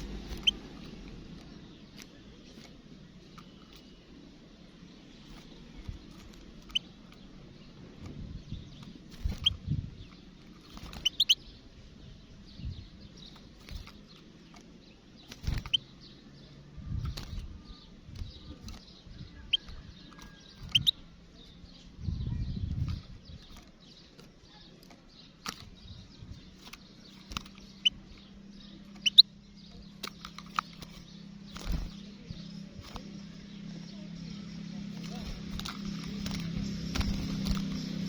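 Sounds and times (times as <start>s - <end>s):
goldfinch chirping: 0.0s - 38.0s.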